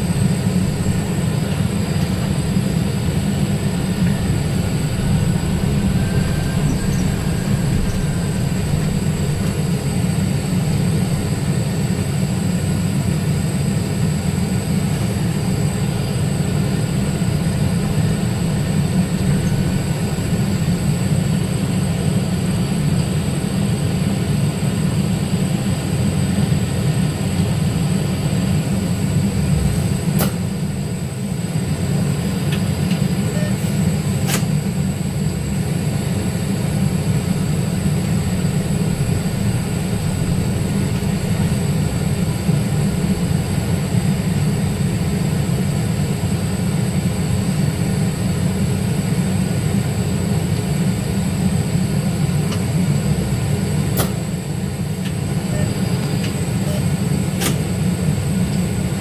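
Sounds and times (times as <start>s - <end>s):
bus cabin low rumble: 0.0s - 59.0s.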